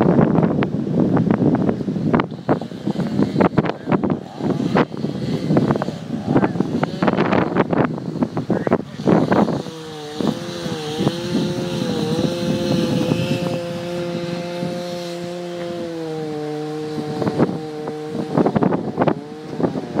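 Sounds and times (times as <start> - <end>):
engine running steadily: 0.0 - 20.0
wind buffeting microphone: 0.0 - 20.0.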